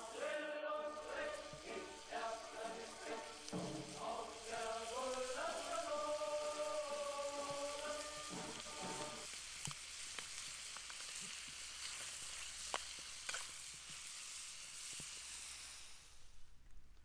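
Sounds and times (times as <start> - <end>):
sharp frying pops: 0.0 - 16.4
food sizzling in a pan: 0.0 - 16.6.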